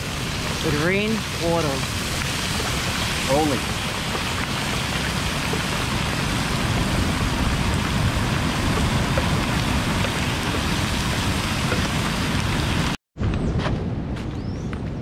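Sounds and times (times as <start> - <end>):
meat sizzling in hot oil: 0.0 - 13.0
oil popping: 0.0 - 13.0
steady rain: 0.0 - 13.0.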